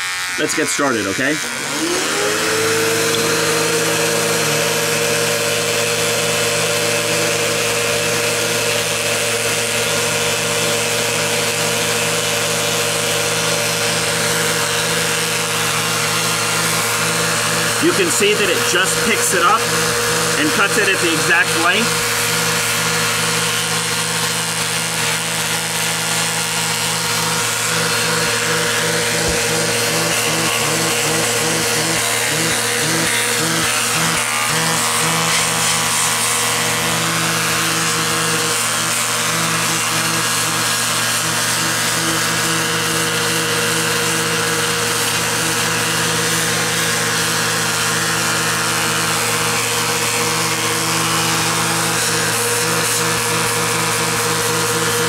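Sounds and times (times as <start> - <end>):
hair clippers buzzing: 0.0 - 55.0
vacuum cleaner running: 0.0 - 55.0.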